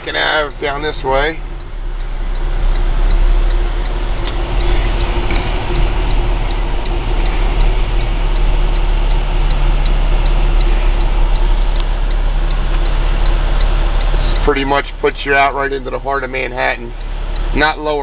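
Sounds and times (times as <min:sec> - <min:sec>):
diesel engine low rumble: 0:00.0 - 0:18.0
faint regular ticking: 0:00.0 - 0:18.0.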